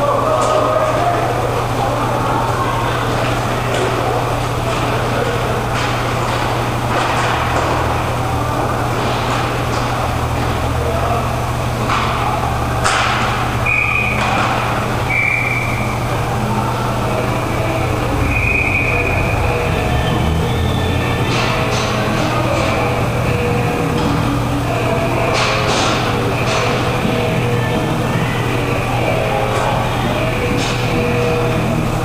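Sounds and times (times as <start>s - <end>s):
low hum: 0.0s - 32.0s
sticks and puck clacking: 0.0s - 32.0s.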